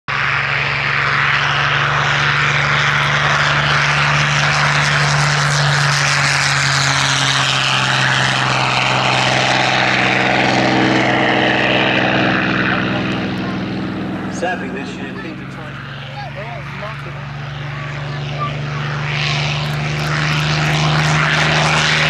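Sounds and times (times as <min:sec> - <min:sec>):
propeller plane engine drone: 0:00.1 - 0:22.0.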